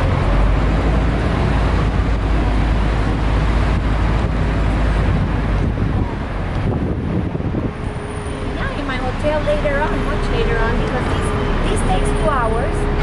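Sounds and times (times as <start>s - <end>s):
bus engine and road noise: 0.0s - 13.0s
wind buffeting microphone: 0.0s - 13.0s.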